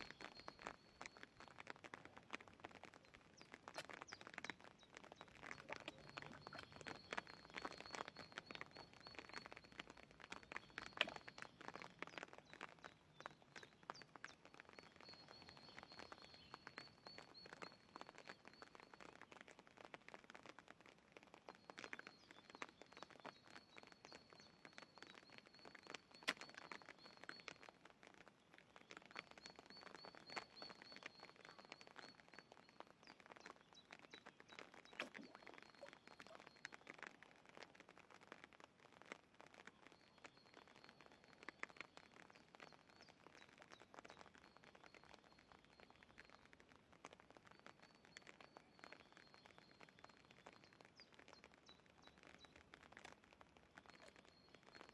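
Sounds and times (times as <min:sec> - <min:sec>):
faint clicks and ticks: 0:00.0 - 0:54.9.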